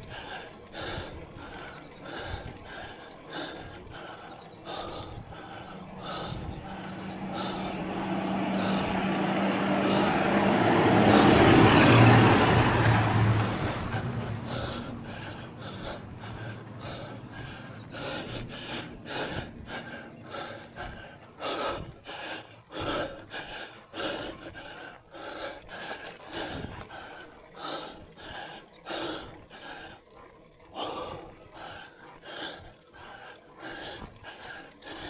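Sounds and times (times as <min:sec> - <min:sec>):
person breathing hard: 0:00.0 - 0:35.0.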